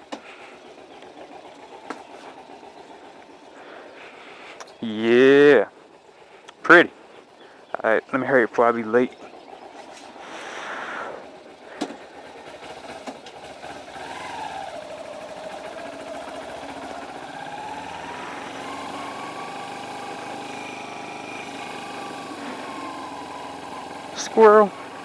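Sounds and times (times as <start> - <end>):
motorcycle engine pulling away: 0.0 - 25.0.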